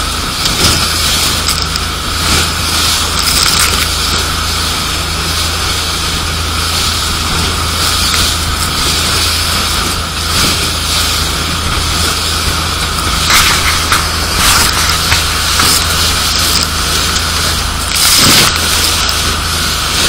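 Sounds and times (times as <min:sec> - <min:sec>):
hull slapping through waves: 0:00.0 - 0:20.0
motorboat engine humming: 0:00.0 - 0:20.0.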